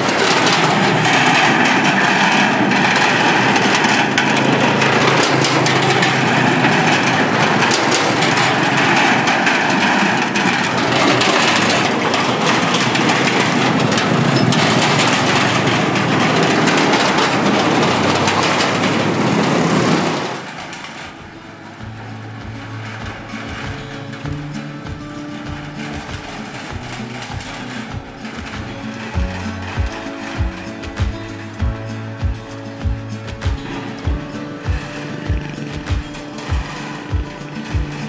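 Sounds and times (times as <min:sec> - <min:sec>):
clatter on steel bridge: 0:00.0 - 0:38.0
motorbike engines: 0:00.0 - 0:38.0.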